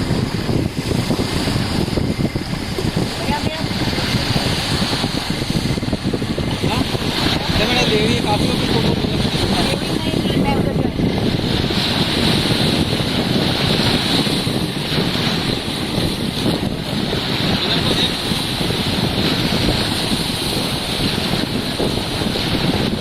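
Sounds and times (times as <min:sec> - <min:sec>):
sea water washing: 0:00.0 - 0:23.0
wind noise on microphone: 0:00.0 - 0:23.0.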